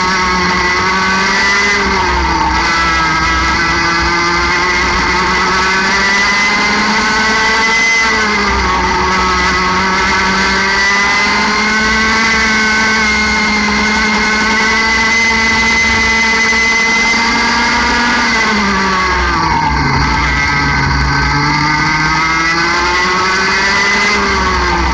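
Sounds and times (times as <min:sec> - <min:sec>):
kart engine at high revs: 0:00.0 - 0:24.9.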